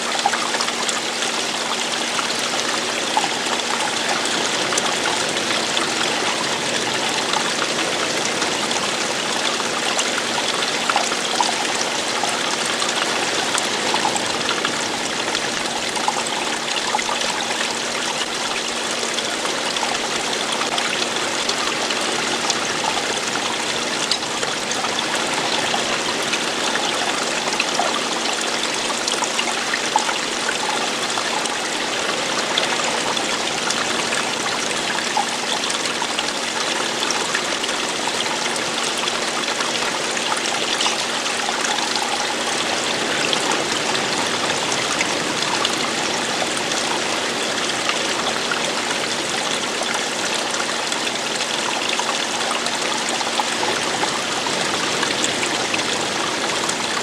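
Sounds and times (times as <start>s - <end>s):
water splashing over rocks: 0.0s - 57.0s.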